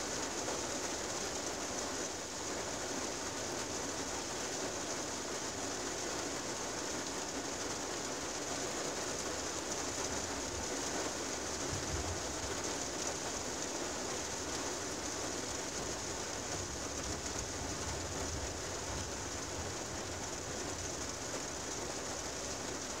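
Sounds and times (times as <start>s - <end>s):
rain on car windshield: 0.0s - 23.0s.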